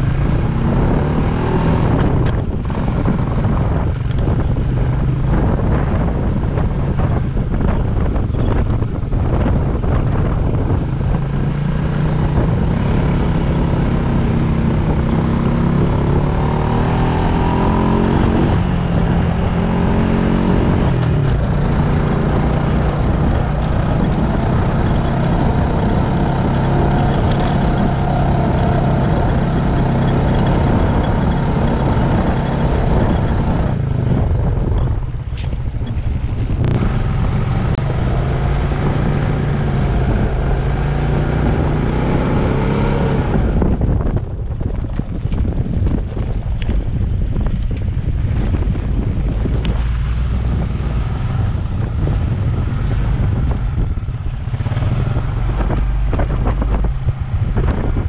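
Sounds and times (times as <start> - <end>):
off-road vehicle engine revving: 0.0 - 6.0, 10.3 - 35.1, 35.9 - 44.2, 48.3 - 58.0.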